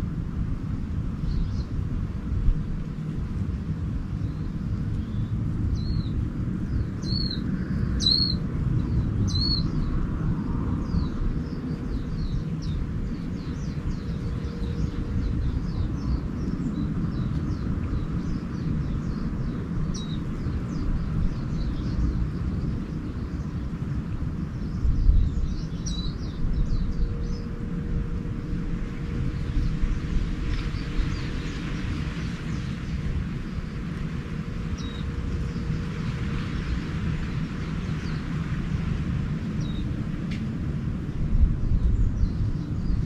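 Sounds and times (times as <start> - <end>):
steady low rumble: 0.0 - 43.0
small birds chirping: 4.1 - 38.9.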